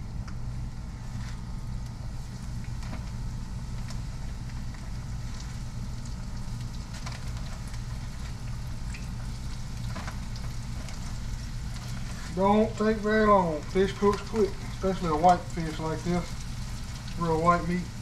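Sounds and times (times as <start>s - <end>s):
fish frying in hot oil: 0.7s - 18.0s.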